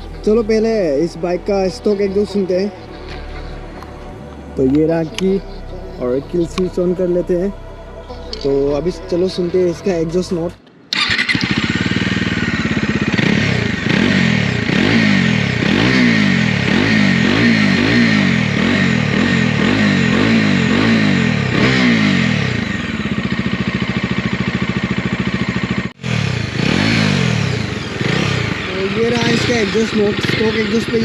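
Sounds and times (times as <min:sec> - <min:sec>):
motorcycle engine idling: 0:00.0 - 0:31.0
motorcycle engine revving: 0:00.0 - 0:31.0.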